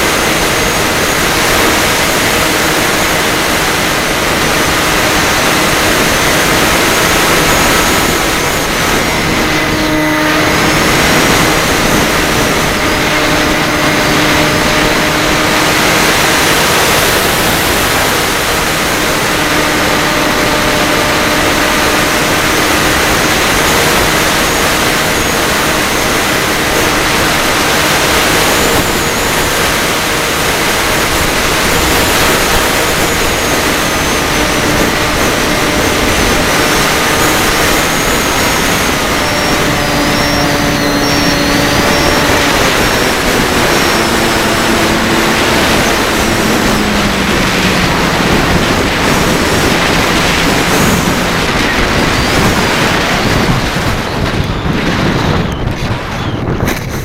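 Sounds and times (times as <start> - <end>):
drone motors and propellers: 0.0 - 57.0.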